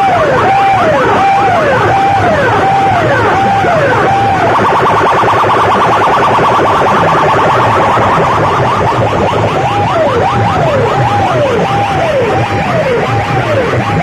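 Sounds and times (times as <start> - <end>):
electronic siren effects: 0.0 - 14.0.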